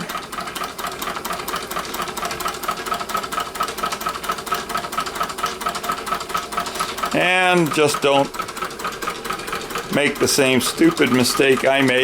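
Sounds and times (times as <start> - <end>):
hot air engine rhythmic clatter: 0.0 - 12.0.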